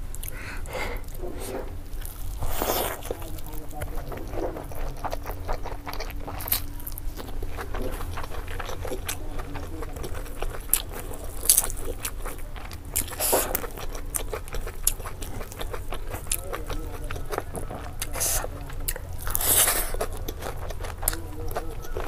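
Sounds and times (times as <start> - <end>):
low hum: 0.0 - 19.4
wet chewing: 0.0 - 22.0.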